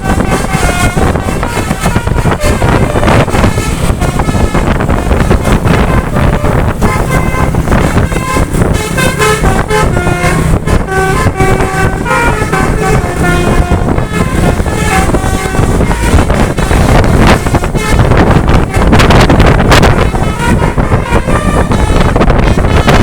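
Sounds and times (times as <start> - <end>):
multi-tone bus horn tune: 0.0 - 23.0
wind and road rumble: 0.0 - 23.0.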